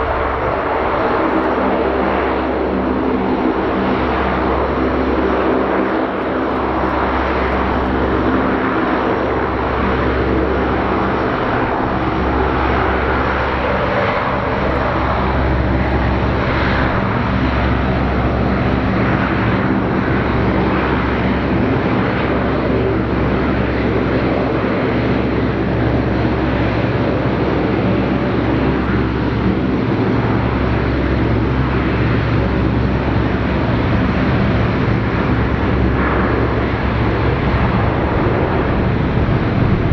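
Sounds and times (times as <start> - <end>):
aircraft propeller drone: 0.0 - 39.9.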